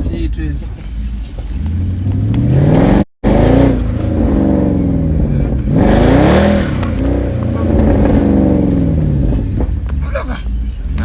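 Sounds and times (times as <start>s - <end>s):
car engine accelerating hard: 0.5s - 11.0s.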